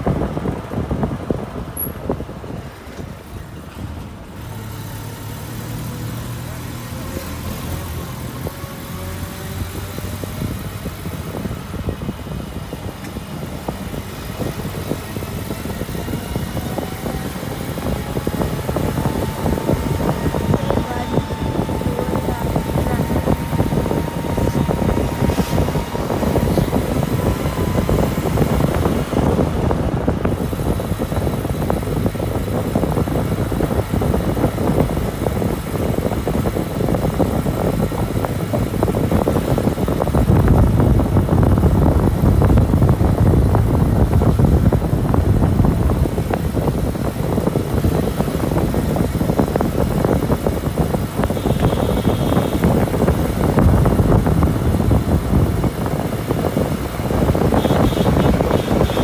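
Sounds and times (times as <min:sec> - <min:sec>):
air rushing past window: 0:00.0 - 0:59.0
van engine and road noise: 0:00.0 - 0:59.0.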